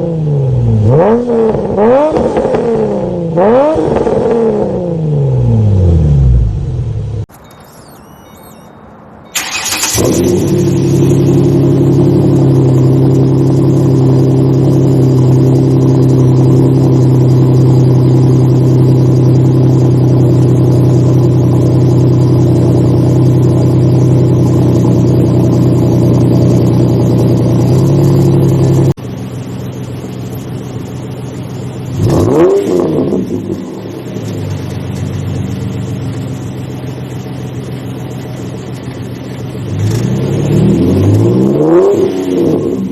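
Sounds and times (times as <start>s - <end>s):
engine revving: 0.0s - 7.2s, 9.4s - 29.0s, 31.8s - 36.7s, 39.6s - 42.9s
car engine starting and idling: 0.0s - 42.9s.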